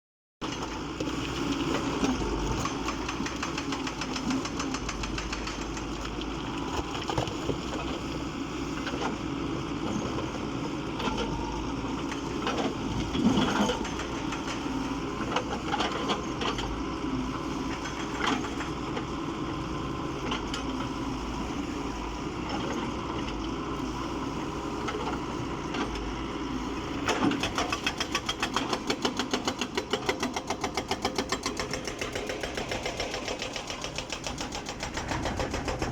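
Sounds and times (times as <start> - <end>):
excavator diesel engine running: 0.4 - 35.9.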